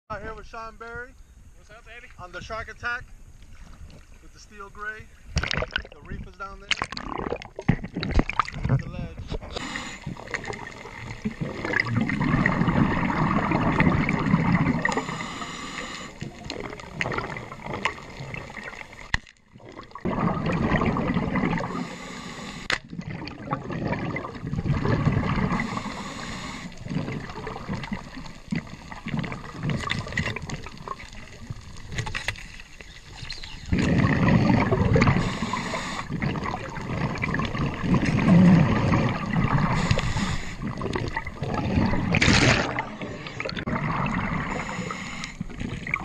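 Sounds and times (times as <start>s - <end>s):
underwater regulator bubbling: 5.3s - 32.2s, 32.8s - 46.0s.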